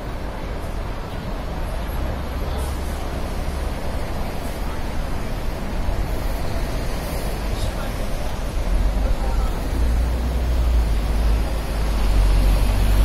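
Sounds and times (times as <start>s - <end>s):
city road traffic: 0.0s - 13.0s
low traffic rumble: 0.0s - 13.0s.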